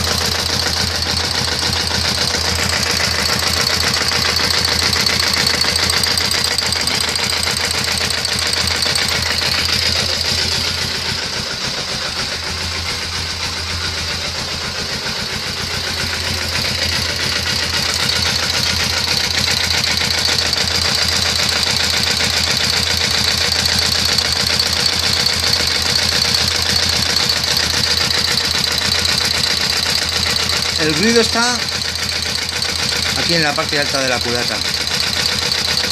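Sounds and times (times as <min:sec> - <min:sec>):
fast light engine ticking: 0:00.0 - 0:35.9
motorcycle engine idling: 0:00.0 - 0:35.9.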